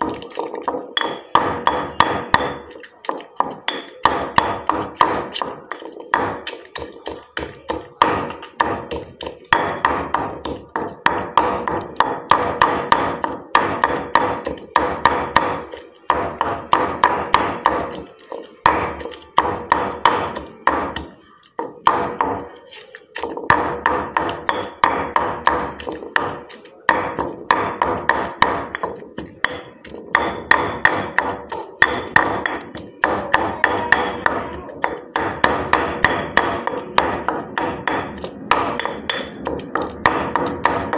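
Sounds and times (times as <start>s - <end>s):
pestle pounding in mortar: 0.0s - 40.9s.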